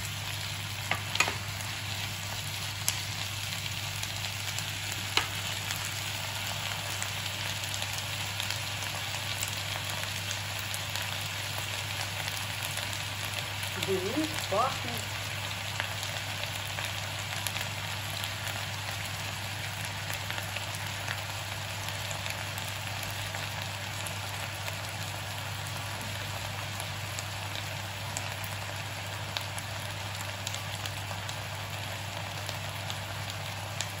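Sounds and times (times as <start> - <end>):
mushrooms and onion sizzling in pan: 0.0 - 34.0.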